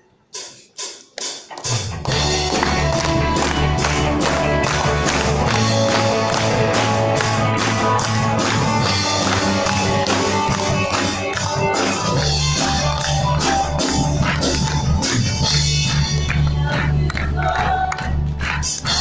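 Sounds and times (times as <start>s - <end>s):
band playing upbeat song: 0.4s - 19.0s.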